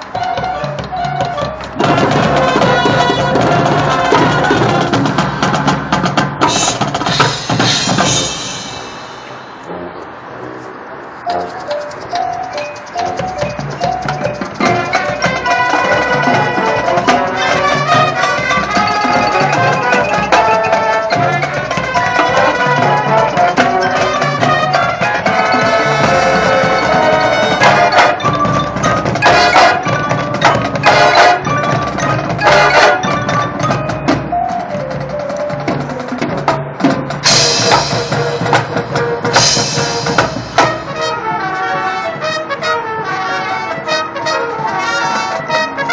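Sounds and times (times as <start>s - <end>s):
sharp percussion hits: 0.0s - 9.9s, 11.2s - 41.6s
marching band playing: 0.0s - 10.3s, 11.2s - 45.9s.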